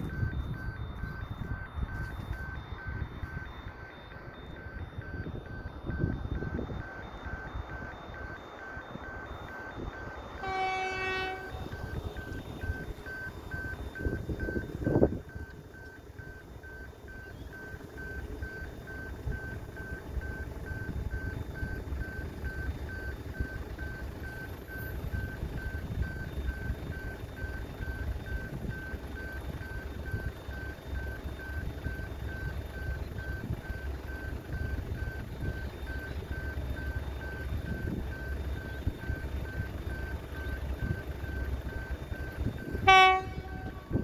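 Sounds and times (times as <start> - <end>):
distant diesel locomotive rumble: 0.0 - 44.0.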